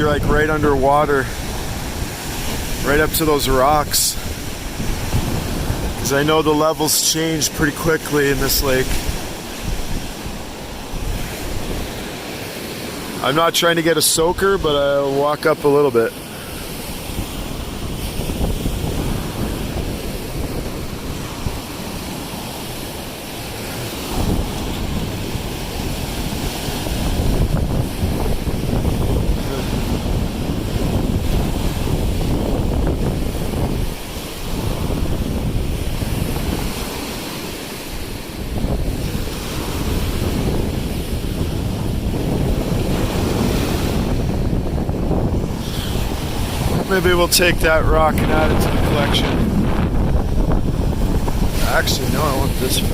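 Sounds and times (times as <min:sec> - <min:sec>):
waves breaking on shore: 0:00.0 - 0:52.9
wind buffeting microphone: 0:00.0 - 0:52.9.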